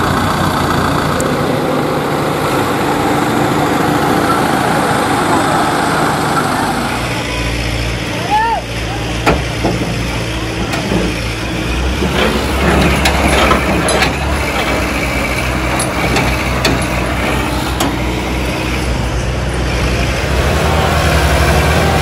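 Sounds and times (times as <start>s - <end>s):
diesel crane engines running: 0.0s - 22.0s.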